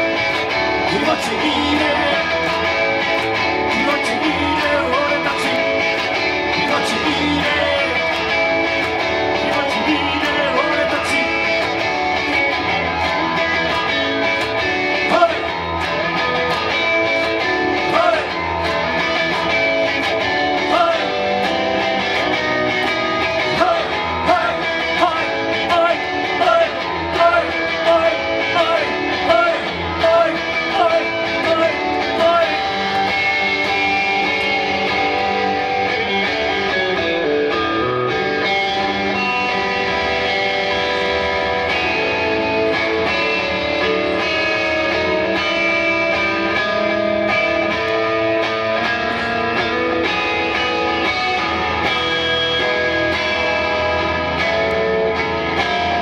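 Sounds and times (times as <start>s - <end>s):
picked lead guitar lines: 0.0s - 56.0s
strummed electric guitar chords: 0.0s - 56.0s.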